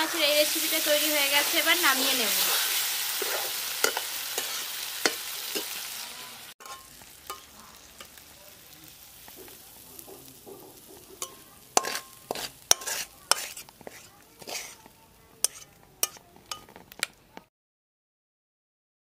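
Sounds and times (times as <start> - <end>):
metal spatula scraping: 0.0 - 8.3, 9.2 - 17.1
curry sizzling in a pan: 0.0 - 17.5.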